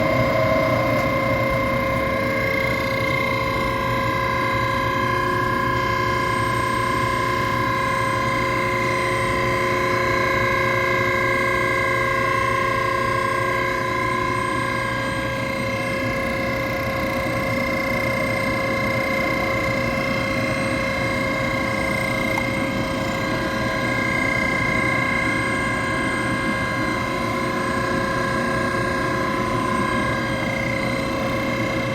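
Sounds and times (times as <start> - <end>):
pump motor whining: 0.0 - 31.9.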